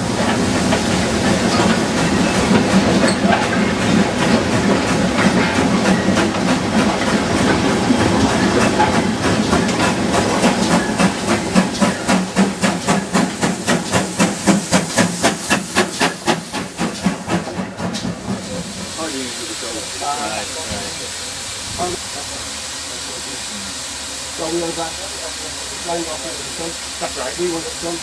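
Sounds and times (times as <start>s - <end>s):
hiss of steam: 0.0s - 28.0s
steam locomotive running: 0.0s - 28.0s.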